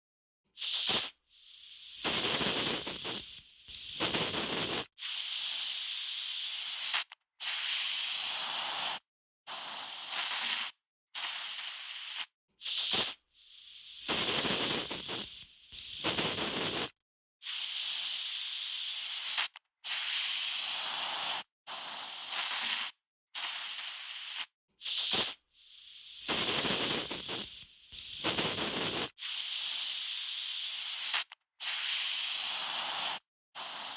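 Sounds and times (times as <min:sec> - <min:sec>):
aerosol spray can spraying: 0:00.6 - 0:33.9.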